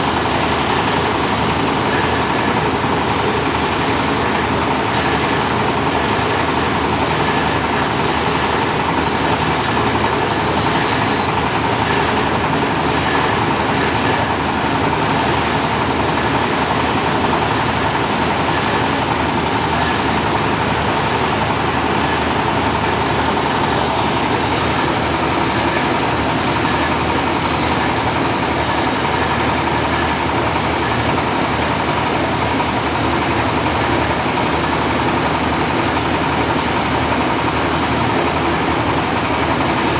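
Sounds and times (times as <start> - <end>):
shredder machine drone: 0.0 - 39.9.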